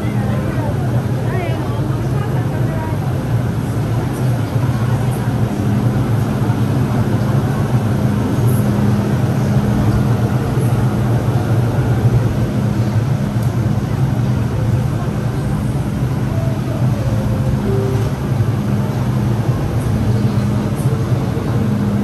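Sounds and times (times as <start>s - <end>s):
train rumbling and humming: 0.0s - 22.0s.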